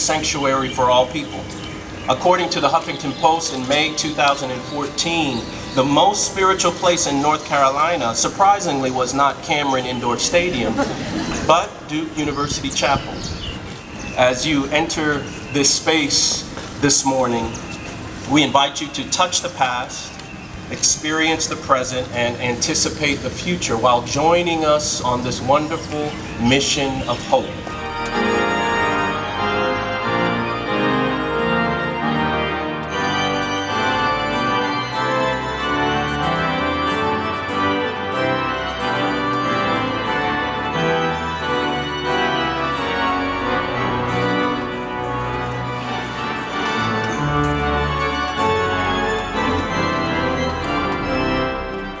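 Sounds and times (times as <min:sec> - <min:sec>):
organ playing sustained chords: 0:00.0 - 0:52.0.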